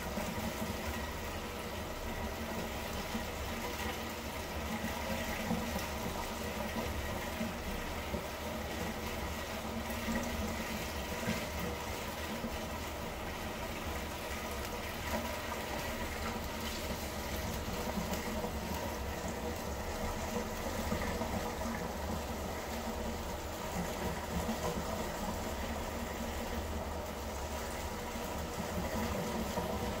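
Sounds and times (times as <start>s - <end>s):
aquarium filter water rushing: 0.0s - 30.0s.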